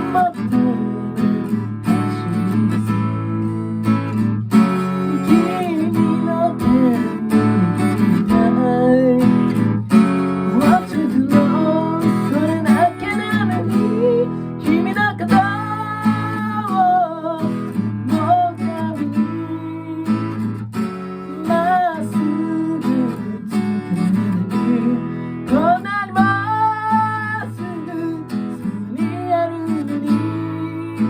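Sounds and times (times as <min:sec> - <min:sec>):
acoustic guitar strumming: 0:00.0 - 0:31.0
person singing: 0:00.0 - 0:31.0.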